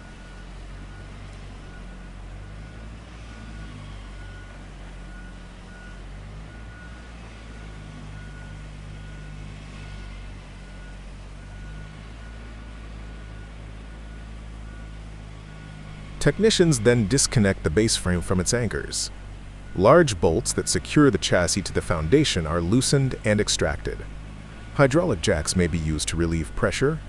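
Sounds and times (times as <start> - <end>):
heavy diesel machinery running: 0.0 - 27.0.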